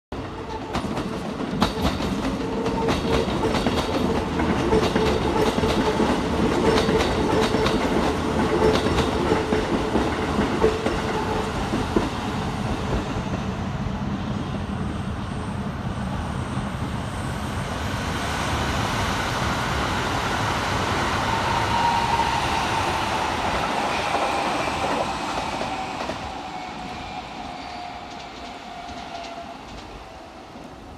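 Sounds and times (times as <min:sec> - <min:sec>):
electric train whine: 0:00.2 - 0:30.9.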